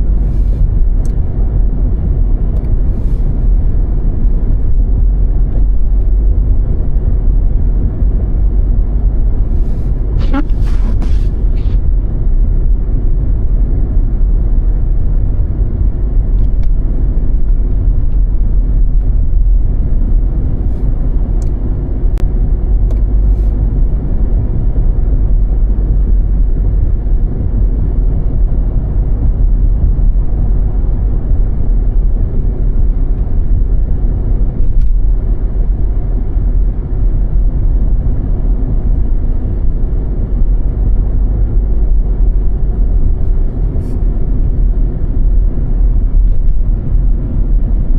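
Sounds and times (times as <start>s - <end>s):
car road and engine rumble: 0.0s - 47.9s.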